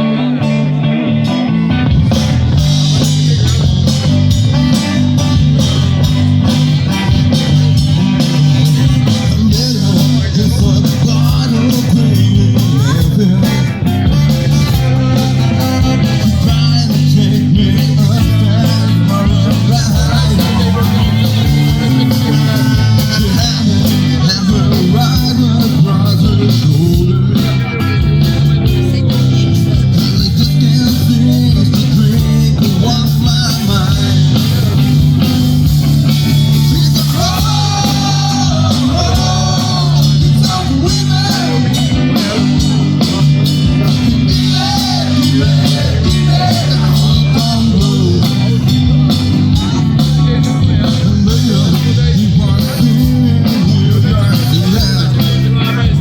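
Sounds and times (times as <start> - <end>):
electric guitar: 0.0 - 56.0
live band playing blues-rock: 0.0 - 56.0.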